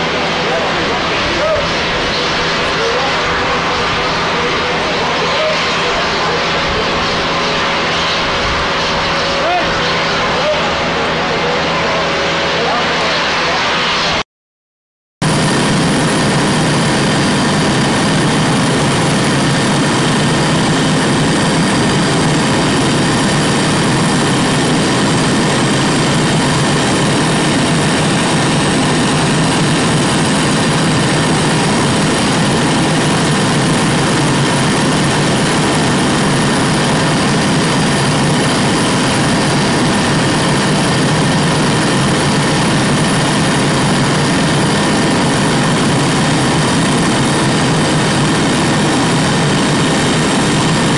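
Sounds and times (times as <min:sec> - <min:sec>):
jet turbine roar and whine: 0:00.0 - 0:14.2, 0:15.2 - 0:50.9.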